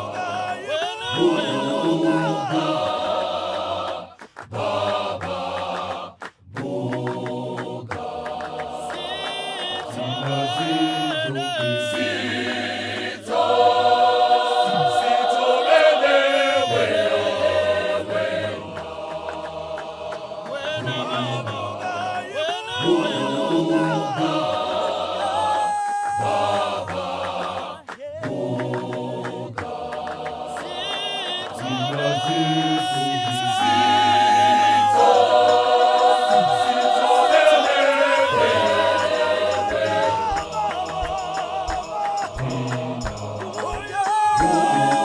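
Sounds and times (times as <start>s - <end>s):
male choir singing a cappella: 0.0s - 45.0s.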